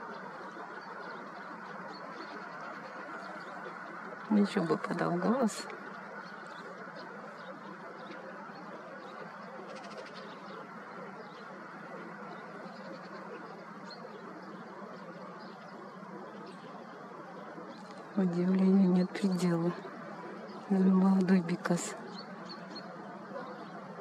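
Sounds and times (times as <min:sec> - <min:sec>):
high bird calls: 0:00.0 - 0:24.0.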